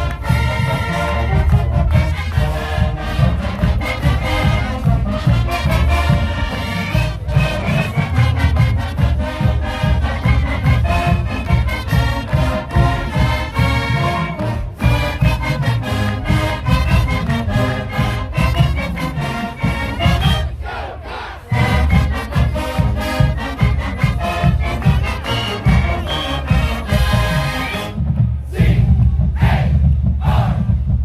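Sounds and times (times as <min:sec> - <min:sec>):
steady drum beat: 0:00.0 - 0:20.6, 0:21.5 - 0:31.0
brass section playing: 0:00.0 - 0:28.8.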